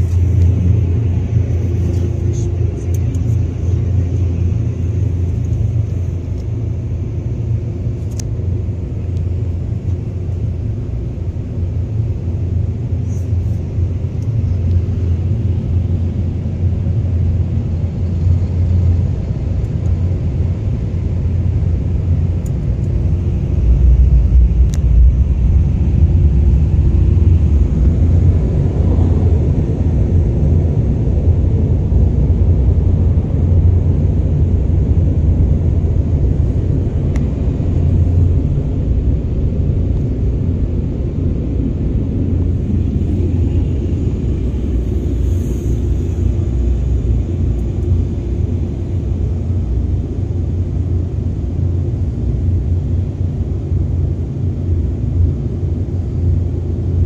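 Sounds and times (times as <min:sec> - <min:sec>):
car wash low rumble: 0:00.0 - 0:57.0.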